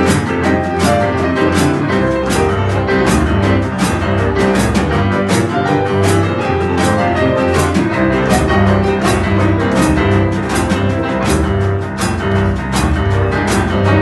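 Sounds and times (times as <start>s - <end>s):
boogie-woogie piano: 0.0s - 14.0s
snare drum beat: 0.0s - 14.0s.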